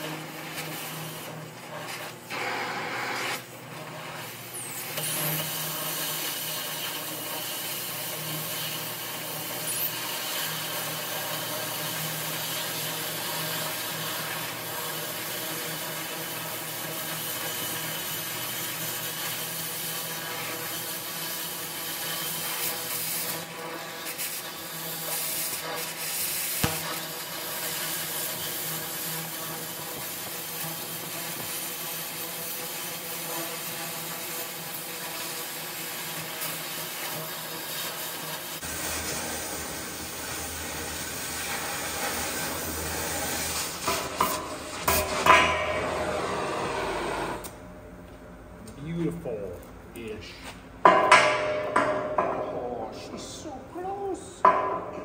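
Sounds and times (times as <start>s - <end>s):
cutting torch hissing: 0.0s - 47.6s.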